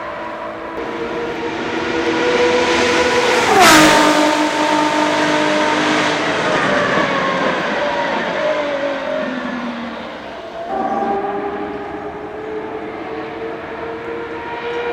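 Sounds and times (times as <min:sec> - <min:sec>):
race car passing at speed: 0:00.0 - 0:14.9.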